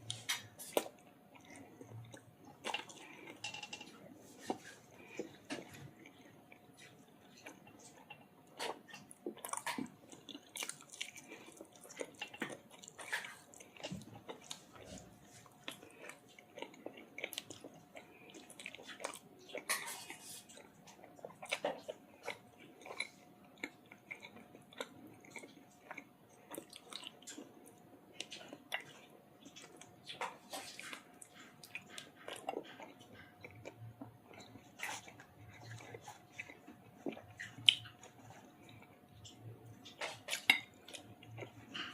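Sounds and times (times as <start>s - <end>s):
person chewing and lip smacking: 0.0s - 41.9s.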